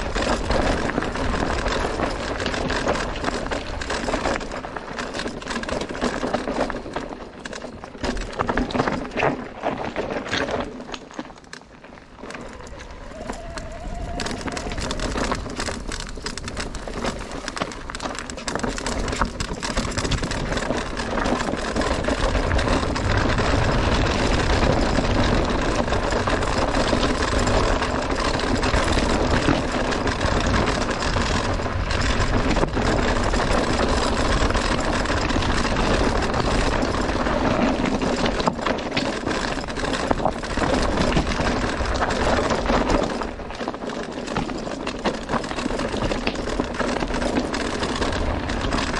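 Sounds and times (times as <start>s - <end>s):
bike rattling over bumps: 0.0s - 48.9s
tyres clattering over loose stones: 0.0s - 48.9s.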